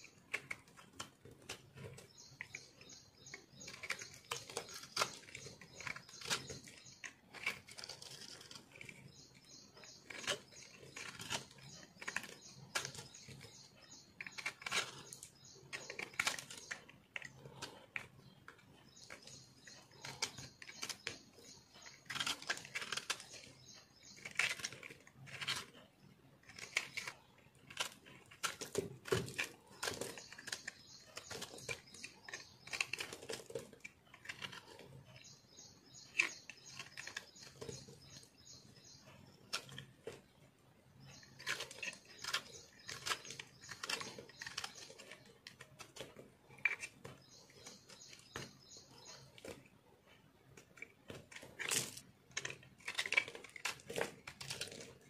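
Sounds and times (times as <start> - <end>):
knife carving soap: 0.0 - 55.0.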